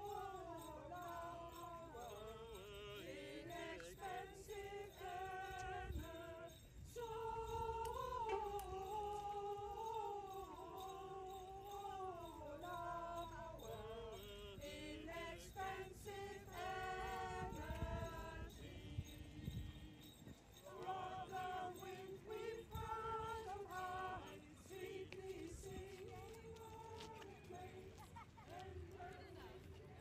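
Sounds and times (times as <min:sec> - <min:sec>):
voices singing slow melody: 0:00.0 - 0:30.0.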